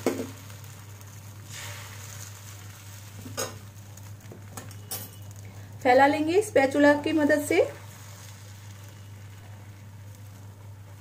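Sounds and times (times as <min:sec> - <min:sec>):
egg batter sizzling in pan: 0:00.0 - 0:11.0.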